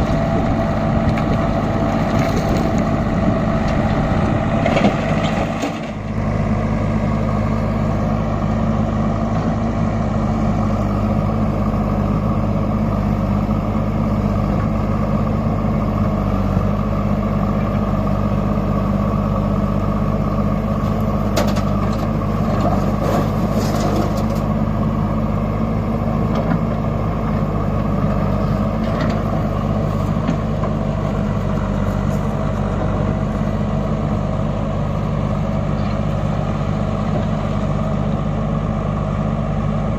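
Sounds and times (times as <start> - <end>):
large diesel engine running: 0.0 - 39.9.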